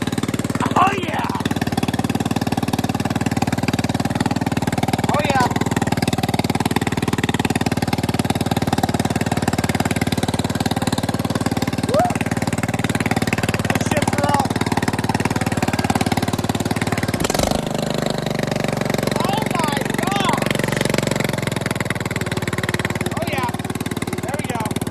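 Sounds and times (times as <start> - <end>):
riding mower engine running: 0.0 - 24.9.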